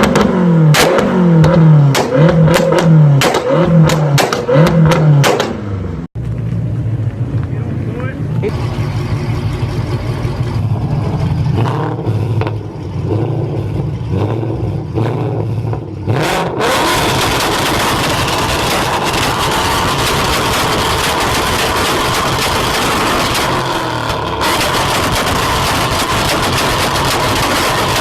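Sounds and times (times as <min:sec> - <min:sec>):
car engine revving with exhaust pops: 0:00.0 - 0:28.0.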